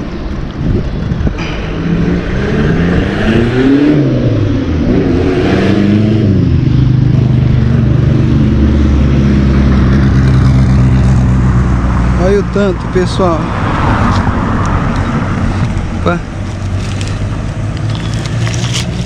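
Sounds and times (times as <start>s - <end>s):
loud motor vehicle engine: 0.0s - 19.0s.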